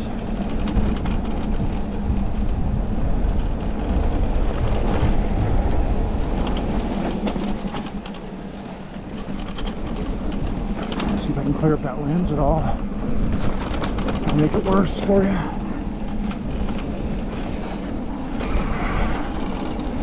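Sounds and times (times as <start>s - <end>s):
bike rattling: 0.0s - 20.0s
tyres rumbling on trail: 0.0s - 20.0s
wind on microphone: 0.0s - 20.0s.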